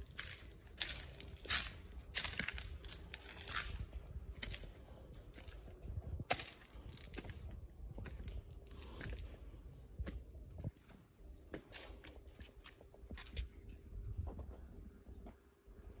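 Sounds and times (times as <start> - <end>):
footsteps crunching on stone: 0.0 - 13.6.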